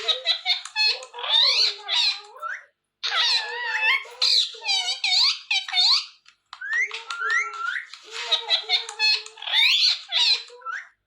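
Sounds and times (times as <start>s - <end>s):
parakeet chattering: 0.0s - 11.0s.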